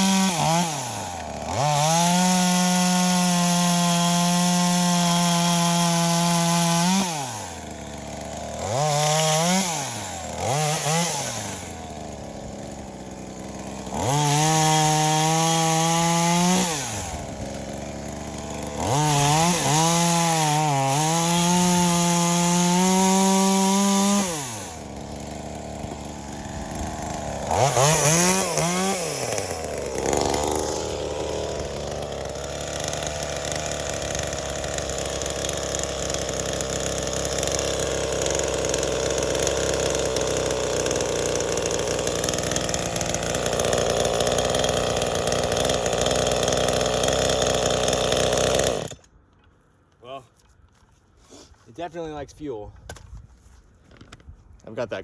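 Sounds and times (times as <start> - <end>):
chainsaw revving: 0.0 - 49.1.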